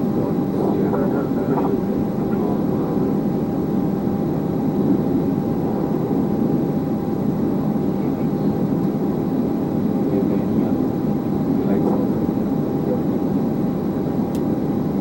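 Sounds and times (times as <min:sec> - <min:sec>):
air-conditioning rush: 0:00.0 - 0:15.0
faint steady whine: 0:00.0 - 0:15.0
jet engines idling: 0:00.0 - 0:15.0.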